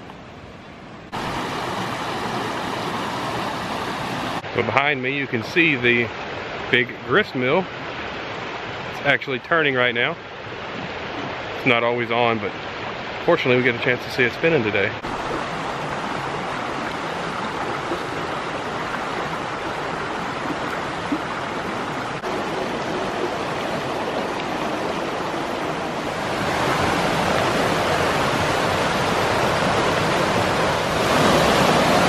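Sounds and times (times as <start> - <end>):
creek water rushing over stones: 1.1 - 32.0.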